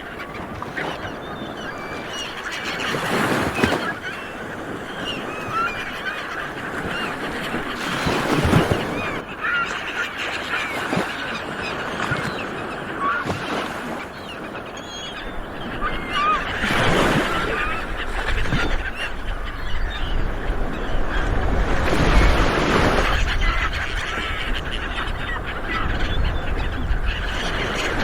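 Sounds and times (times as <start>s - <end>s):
birds honking: 0.0s - 28.0s.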